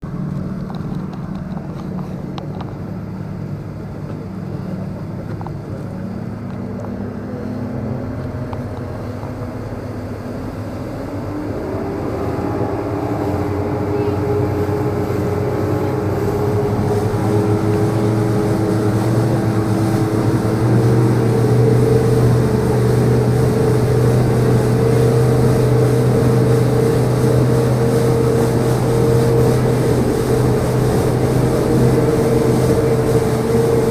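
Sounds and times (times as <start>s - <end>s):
speedboat outboard engines: 0.0s - 33.9s.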